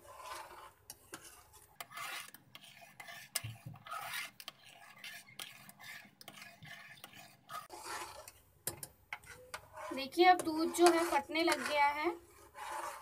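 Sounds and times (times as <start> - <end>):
metal spoon scraping pot: 0.0 - 13.0.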